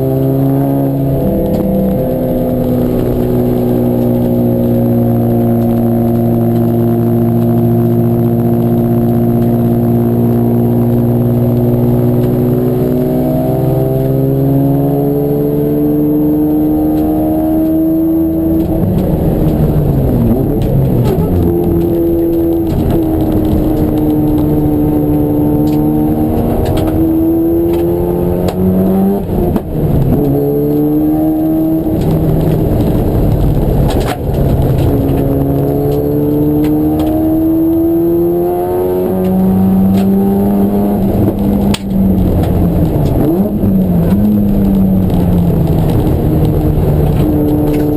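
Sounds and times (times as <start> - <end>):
racing car engine accelerating: 0.0 - 47.9.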